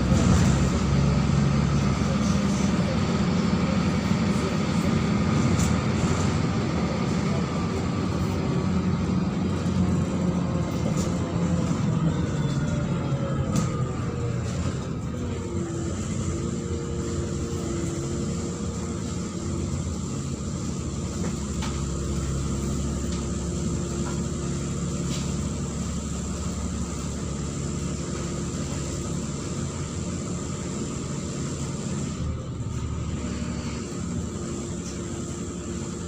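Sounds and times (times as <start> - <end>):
diesel engine drone: 0.0 - 36.0
road noise: 0.0 - 36.0.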